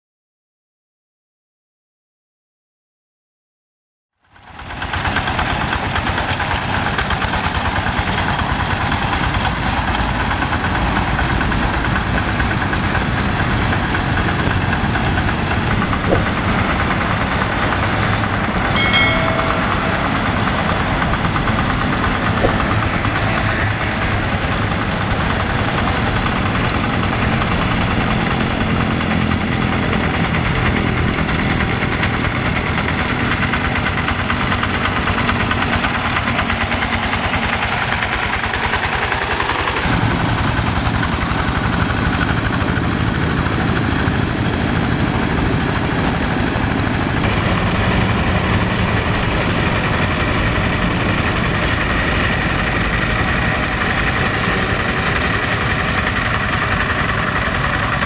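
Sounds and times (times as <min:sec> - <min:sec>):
diesel tractor engine running: 0:04.3 - 0:58.0.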